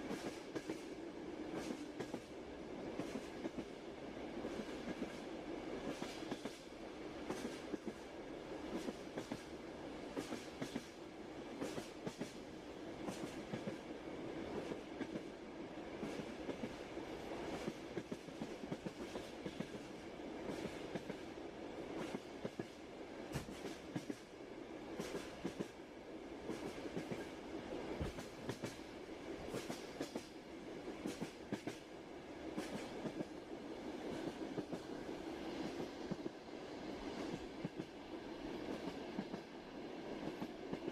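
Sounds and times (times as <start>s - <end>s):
train rolling rumble: 0.0s - 40.9s.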